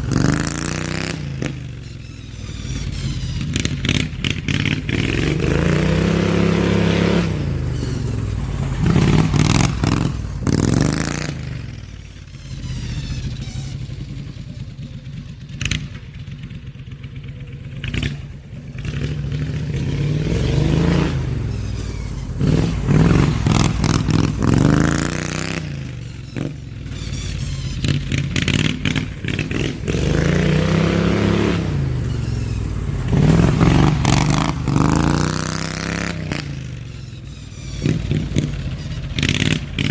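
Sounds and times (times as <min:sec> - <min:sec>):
riding mower engine revving: 0:00.0 - 0:39.9.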